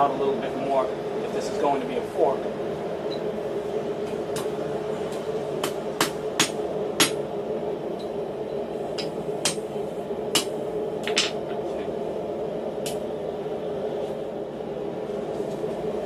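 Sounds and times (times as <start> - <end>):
steady rushing hum: 0.0 - 16.0.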